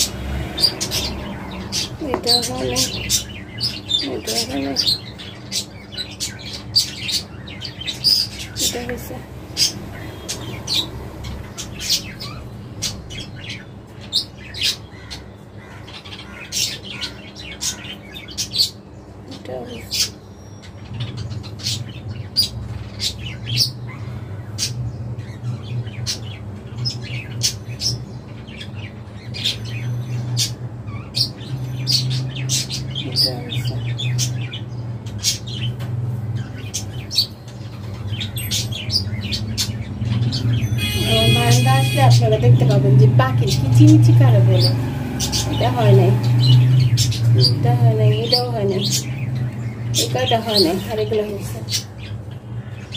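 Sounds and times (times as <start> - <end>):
budgerigars chirping and squawking: 0.0 - 52.9.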